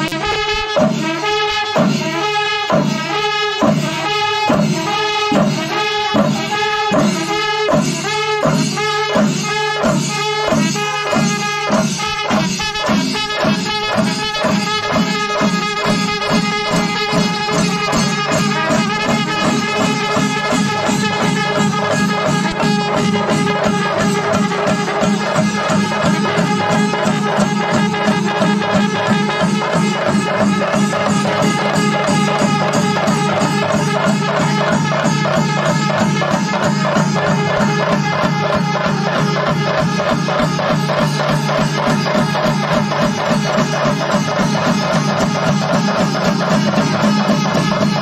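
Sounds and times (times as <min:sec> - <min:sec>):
brass band playing: 0:00.0 - 0:48.0.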